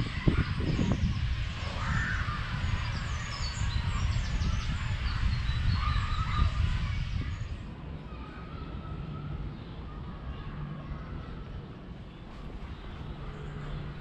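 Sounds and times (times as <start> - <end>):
birds chirping: 0.0 - 10.5, 12.0 - 14.0
harsh low bird calls: 0.0 - 11.5.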